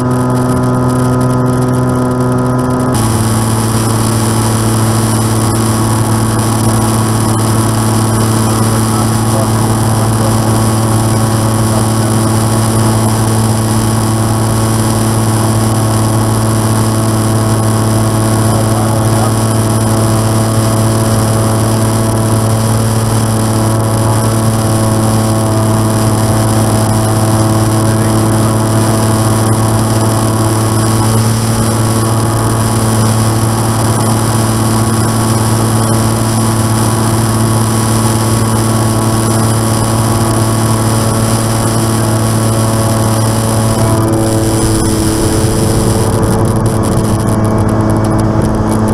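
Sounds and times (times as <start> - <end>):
aircraft piston engine droning: 0.0 - 48.9.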